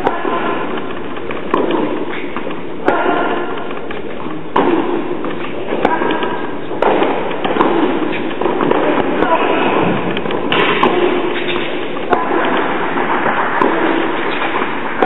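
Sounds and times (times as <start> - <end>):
tennis ball hit by rackets: 0.0 - 15.0.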